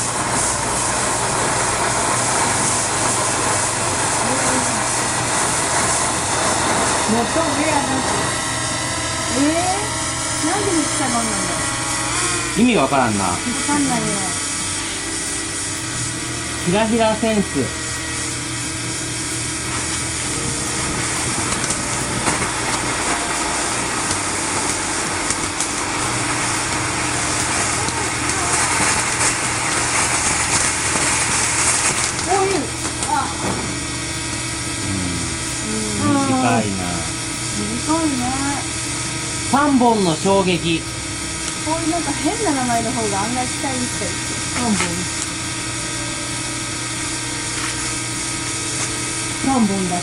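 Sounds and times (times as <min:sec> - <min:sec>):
firework crackles: 0:00.0 - 0:50.0
firework fountain hissing: 0:00.0 - 0:50.0.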